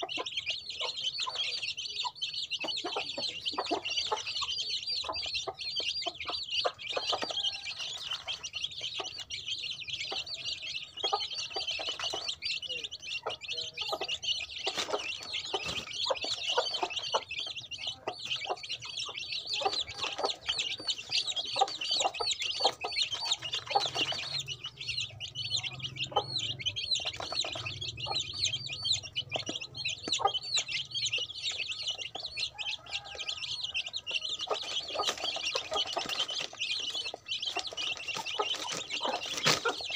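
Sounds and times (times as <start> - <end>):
chicks peeping: 0.0 - 39.9
beaks pecking in plastic tray: 5.5 - 9.5, 10.2 - 39.9.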